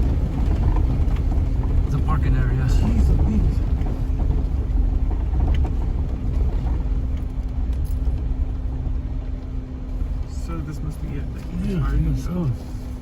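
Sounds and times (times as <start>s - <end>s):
engine and tyres on dirt: 0.0s - 13.0s.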